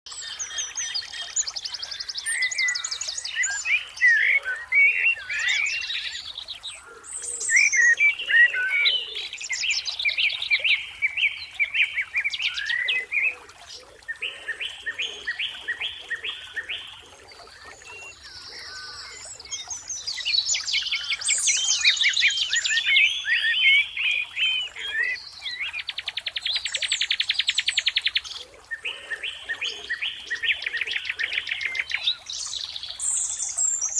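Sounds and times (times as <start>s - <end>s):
songbirds singing and trilling: 0.1s - 33.9s.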